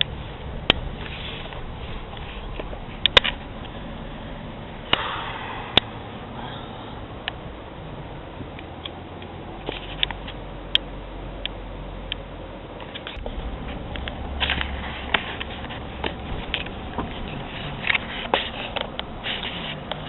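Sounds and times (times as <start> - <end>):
engine and road hum: 0.0 - 20.0.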